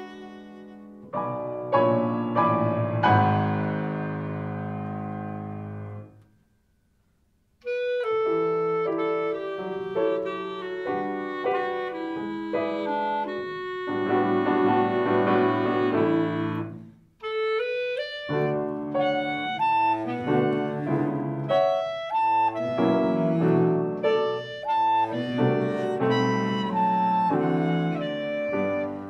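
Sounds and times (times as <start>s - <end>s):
jazzy piano clarinet and cello trio: 0.0s - 6.1s, 7.6s - 29.0s.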